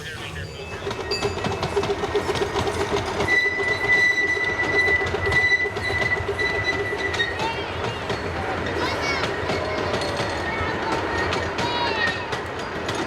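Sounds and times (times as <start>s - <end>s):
miniature train rumbling on track: 0.0s - 13.0s.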